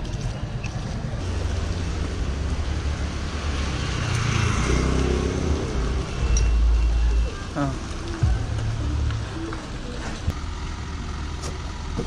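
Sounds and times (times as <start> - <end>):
vehicle engines running: 0.0 - 12.0
cars passing: 0.8 - 12.0.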